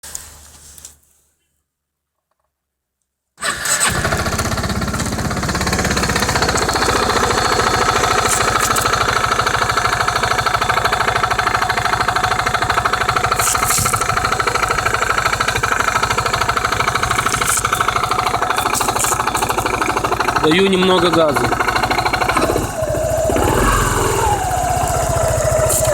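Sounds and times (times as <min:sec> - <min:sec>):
engine knocking: 0:03.4 - 0:25.9
scooter engine idling: 0:03.4 - 0:25.9.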